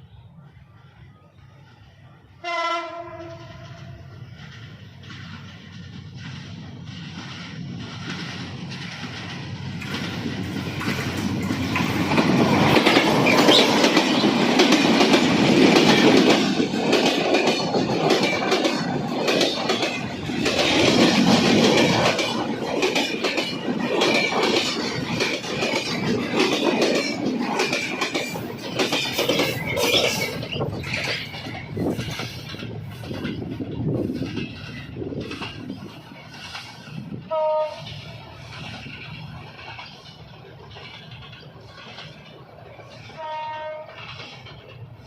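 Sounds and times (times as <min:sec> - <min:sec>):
train wheels clacking over rail joints: 0:02.5 - 0:45.0.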